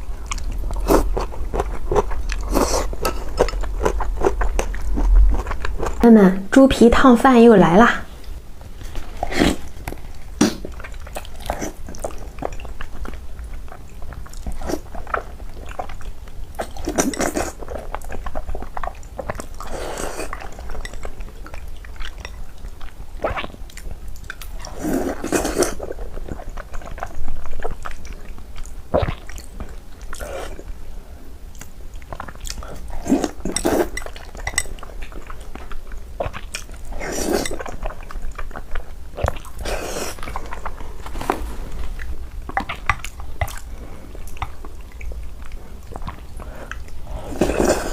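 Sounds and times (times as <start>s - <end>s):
close chewing and biting: 0.0s - 6.1s, 8.8s - 30.8s, 31.5s - 47.9s.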